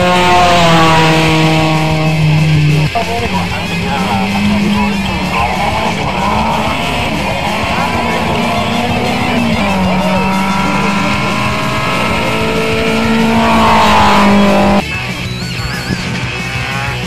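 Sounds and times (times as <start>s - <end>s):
guitar music: 0.0s - 17.0s
rally car engine at high revs: 0.0s - 17.0s.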